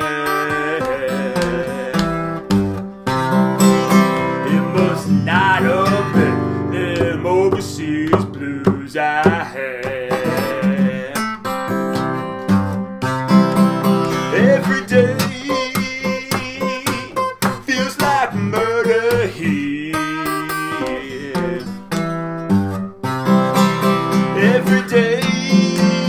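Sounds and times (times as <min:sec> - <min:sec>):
man singing: 0:00.0 - 0:02.6, 0:03.6 - 0:12.0, 0:13.8 - 0:22.1, 0:23.6 - 0:26.0
fingerpicked acoustic guitar: 0:00.0 - 0:26.0.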